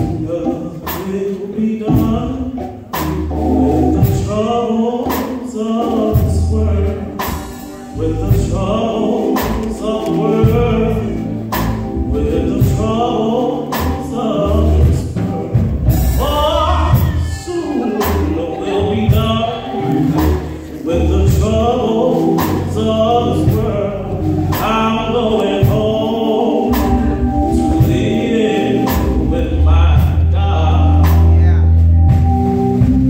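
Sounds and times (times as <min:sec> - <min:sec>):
man singing gospel: 0:00.0 - 0:32.1
low accompaniment with steady beat: 0:00.0 - 0:33.0.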